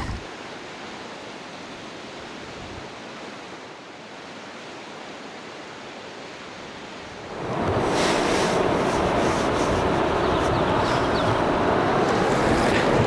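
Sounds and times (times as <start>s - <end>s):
rush of moving water: 0.0s - 13.0s.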